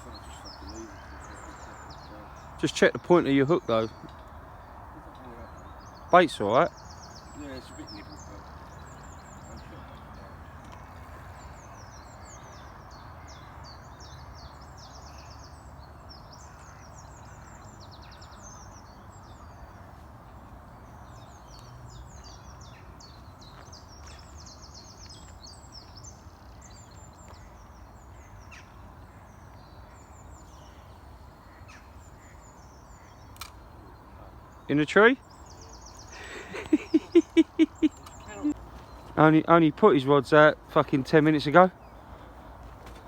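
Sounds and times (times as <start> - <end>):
low outdoor background rush: 0.0 - 43.0
songbirds chirping: 0.0 - 43.0.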